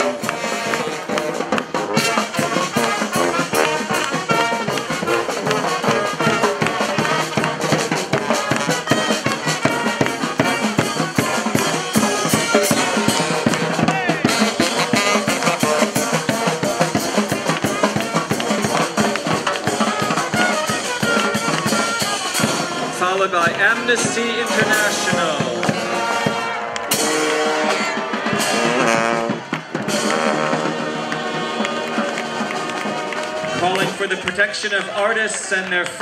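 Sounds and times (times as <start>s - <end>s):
brass horns playing: 0.0s - 34.1s
marching drum beat: 0.0s - 34.6s.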